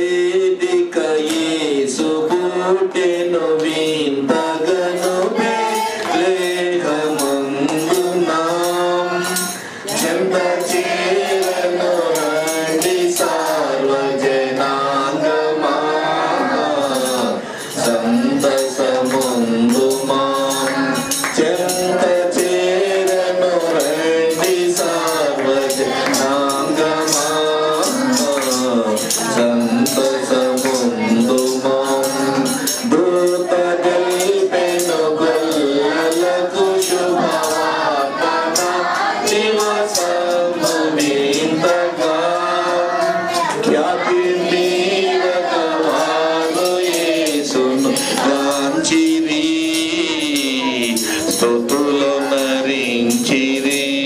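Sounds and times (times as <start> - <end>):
jingling hand percussion: 0.0 - 54.0
man singing into microphone: 0.0 - 54.0.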